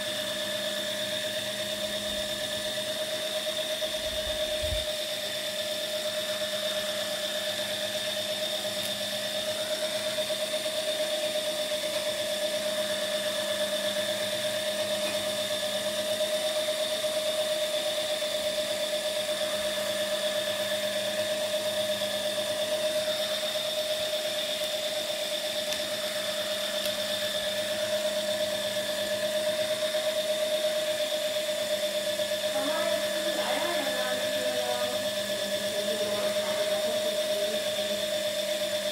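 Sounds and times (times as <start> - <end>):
small electric motor whining: 0.0 - 38.9.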